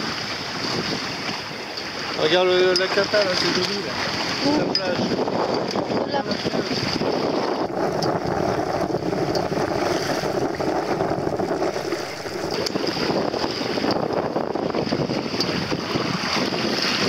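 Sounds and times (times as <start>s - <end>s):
choppy water along boat hull: 0.0s - 17.0s
wind buffeting microphone: 0.0s - 17.0s.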